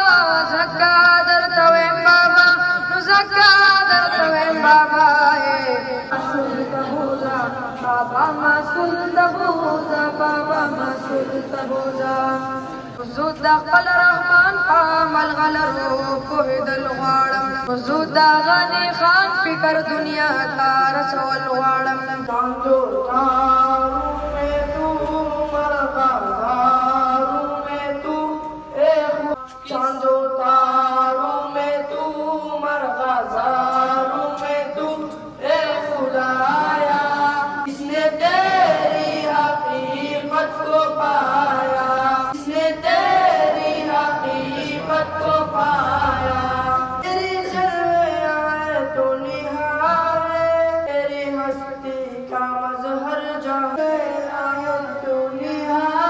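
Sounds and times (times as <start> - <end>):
boys singing together: 0.0 - 56.0.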